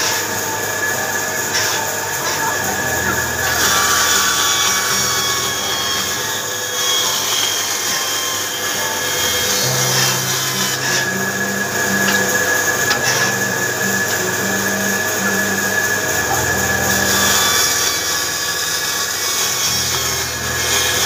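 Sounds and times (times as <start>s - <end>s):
power tool whining on wood: 0.0s - 21.0s.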